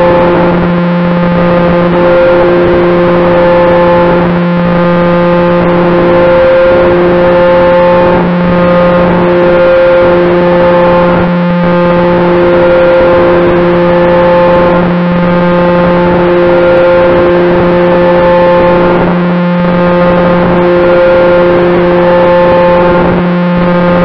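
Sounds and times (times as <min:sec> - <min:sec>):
model plane propeller drone: 0:00.0 - 0:24.0.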